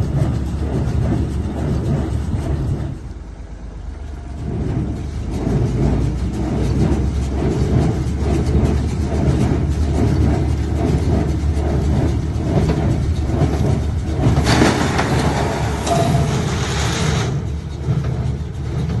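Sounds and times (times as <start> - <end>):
baler mechanical clatter: 0.0 - 19.0
tractor engine rumble: 0.0 - 19.0.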